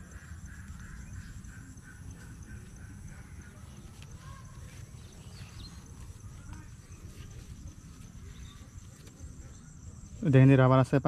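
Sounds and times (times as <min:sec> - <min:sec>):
faint insect chirring: 0:00.0 - 0:11.0.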